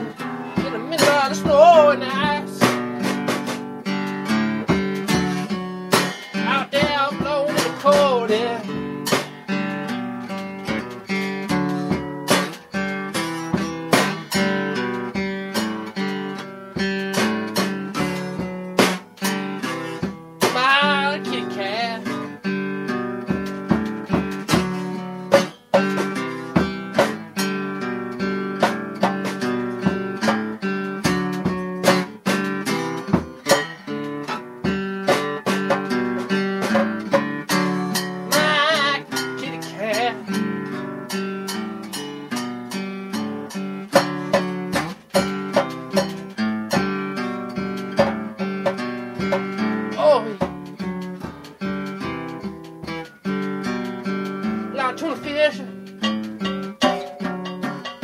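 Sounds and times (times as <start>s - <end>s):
acoustic guitar music: 0.0s - 58.0s.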